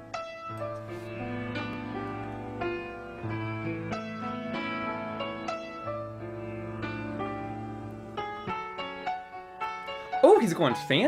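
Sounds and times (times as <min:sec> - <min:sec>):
slow solo piano: 0:00.0 - 0:10.3.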